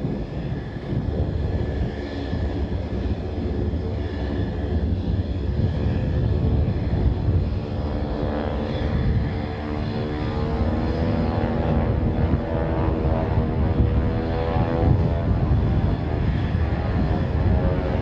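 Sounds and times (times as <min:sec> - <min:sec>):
aircraft engine rumble: 0:00.0 - 0:18.0.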